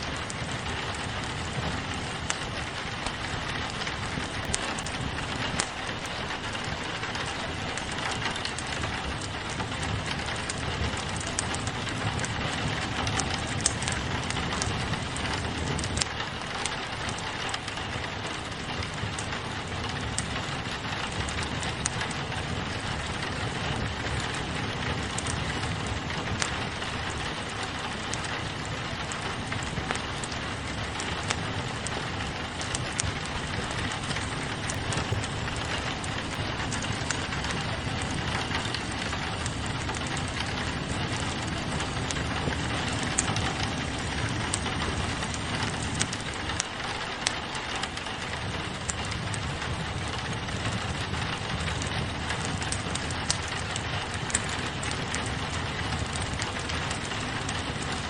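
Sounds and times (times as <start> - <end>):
rain pattering on a window: 0.0 - 58.0
wood fire crackling and popping: 0.0 - 58.0.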